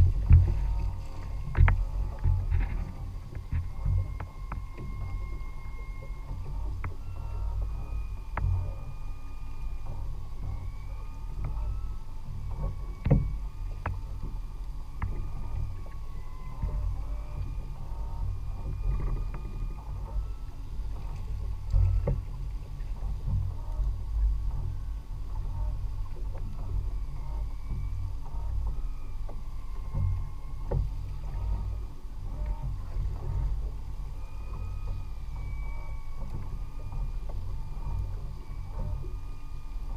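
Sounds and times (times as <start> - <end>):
wind and water around hull: 0.0 - 39.9.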